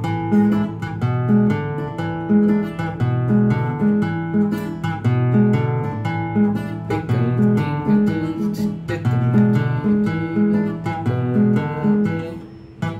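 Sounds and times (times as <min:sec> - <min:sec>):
classical guitar riff: 0:00.0 - 0:12.9.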